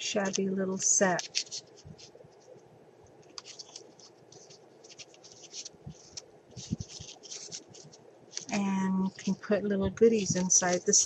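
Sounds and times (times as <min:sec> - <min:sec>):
paper rustling and scratching: 0:00.0 - 0:11.0.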